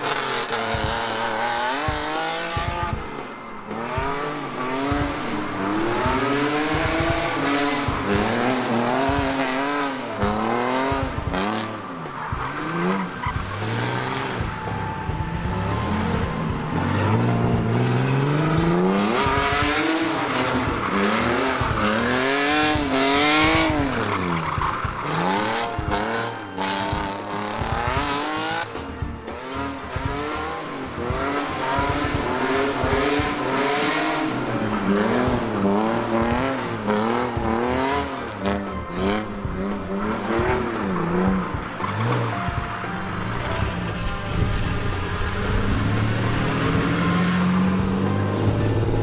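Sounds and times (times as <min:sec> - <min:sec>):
car engine revving hard: 0:00.0 - 0:49.0
tyres squealing and skidding: 0:00.0 - 0:49.0.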